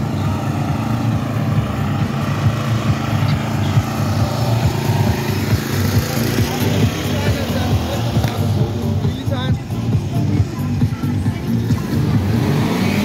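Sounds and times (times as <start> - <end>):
lawn tractor engine running: 0.0 - 13.0.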